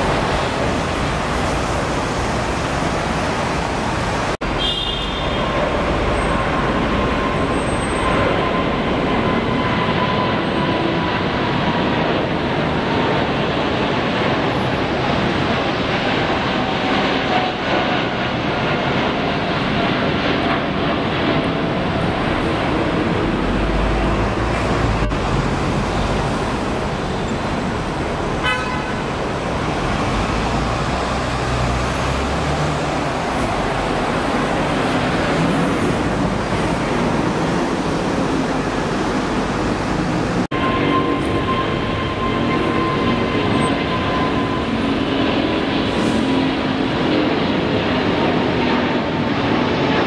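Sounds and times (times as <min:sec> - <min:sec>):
jet engine whine: 0:00.0 - 0:50.0
jet engines rumbling: 0:00.0 - 0:50.0.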